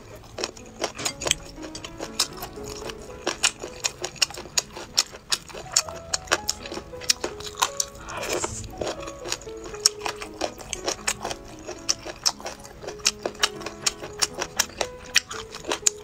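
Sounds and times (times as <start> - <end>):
wet crunchy chewing: 0.0 - 16.0.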